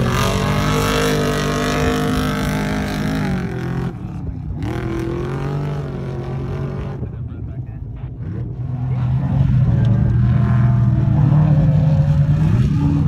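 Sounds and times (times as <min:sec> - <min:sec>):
race vehicle engines running: 0:00.0 - 0:13.0.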